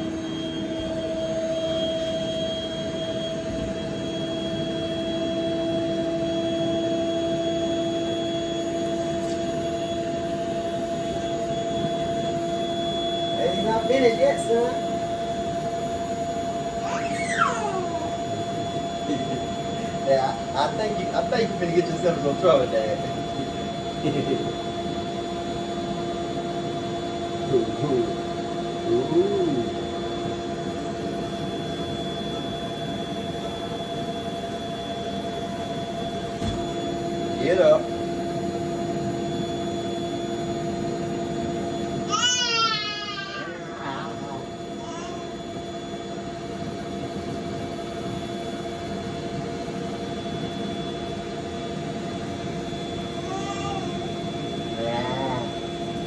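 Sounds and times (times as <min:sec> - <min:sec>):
electric air pump running: 0:00.0 - 0:56.0
electric blower humming: 0:00.0 - 0:56.0.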